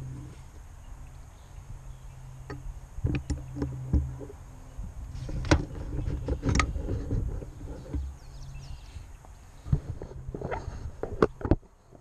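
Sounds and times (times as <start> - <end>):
low wind rumble on microphone: 0.0 - 12.0.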